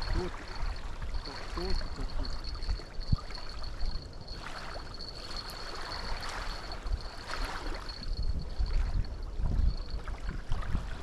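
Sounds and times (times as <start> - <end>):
thin steady high whine: 0.0 - 11.0
water lapping at bank: 0.0 - 11.0
wind buffeting microphone: 0.0 - 11.0.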